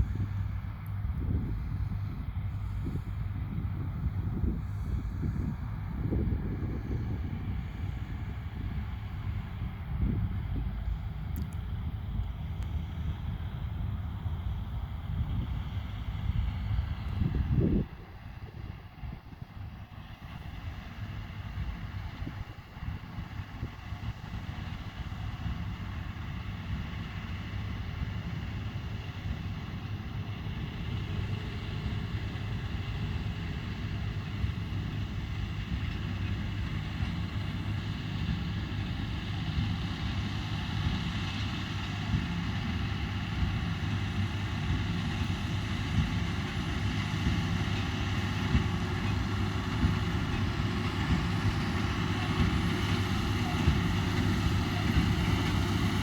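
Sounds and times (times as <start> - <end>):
tractor and baler engine drone: 0.0 - 56.0.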